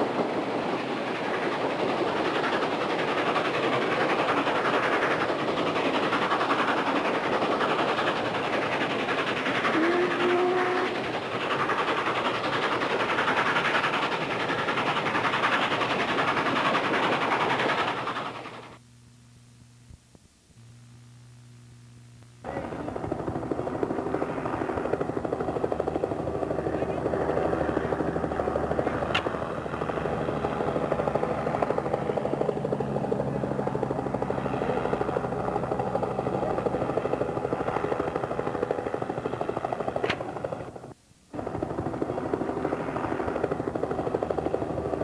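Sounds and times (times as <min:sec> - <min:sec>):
steam locomotive exhaust beats: 0:00.0 - 0:18.8, 0:22.4 - 0:45.0.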